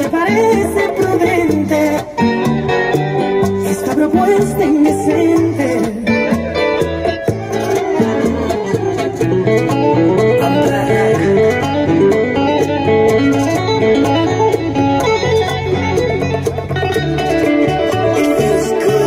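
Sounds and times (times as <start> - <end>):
bass and percussion: 0.0 - 19.0
lead guitar runs: 0.0 - 19.0.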